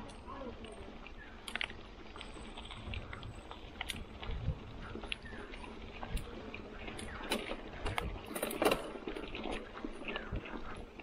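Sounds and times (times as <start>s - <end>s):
bike chain and frame rattling: 0.0s - 11.0s
bike tyres on dirt trail: 0.0s - 11.0s.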